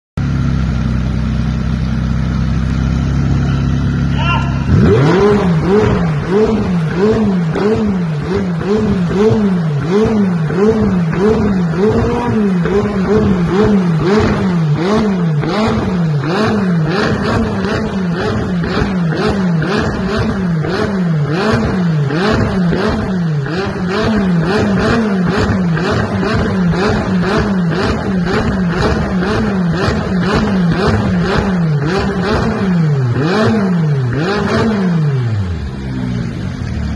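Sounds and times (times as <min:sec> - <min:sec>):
car engine revving: 0:00.2 - 0:36.9
exhaust crackle: 0:00.2 - 0:36.9.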